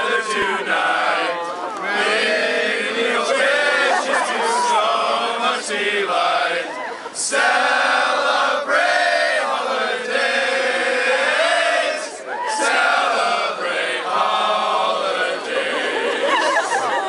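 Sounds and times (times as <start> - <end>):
men singing a carol: 0.0 - 16.8.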